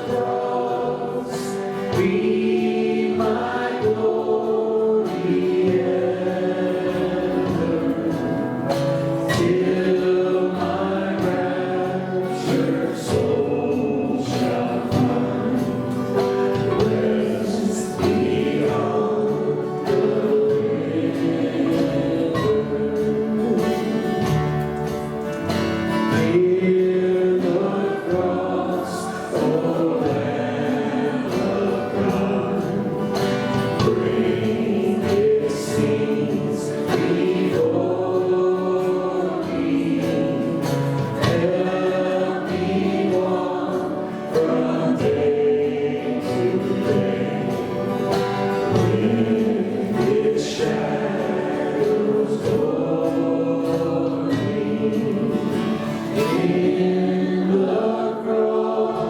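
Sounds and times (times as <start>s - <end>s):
instrumental accompaniment: 0.0s - 59.0s
voices singing together: 0.0s - 59.0s.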